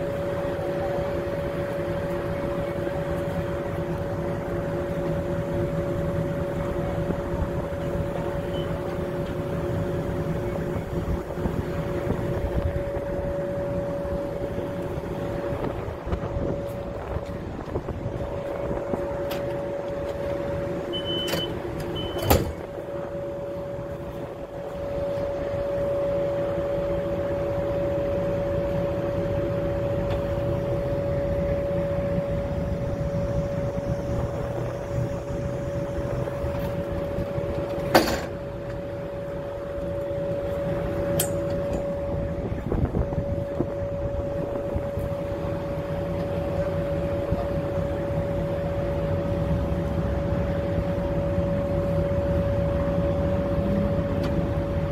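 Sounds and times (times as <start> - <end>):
bus engine and road rumble: 0.0 - 54.9
constant hum: 0.0 - 54.9.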